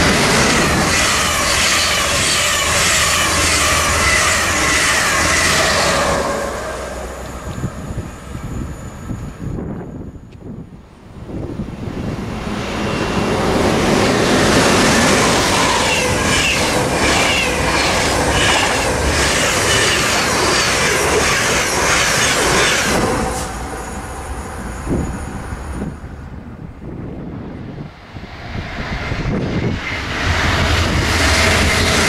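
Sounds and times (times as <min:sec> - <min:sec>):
train rushing past: 0:00.0 - 0:32.0.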